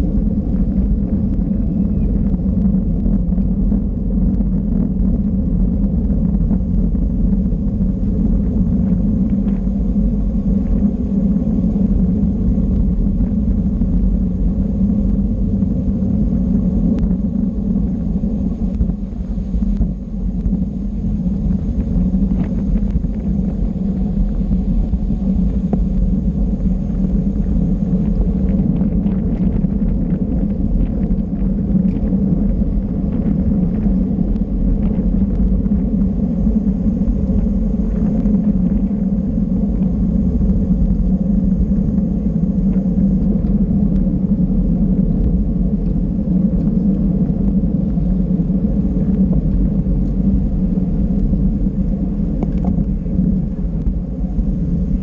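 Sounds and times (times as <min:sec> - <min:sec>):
bicycle tyre and road noise: 0:00.0 - 0:55.0
wind rumble on microphone: 0:00.0 - 0:55.0.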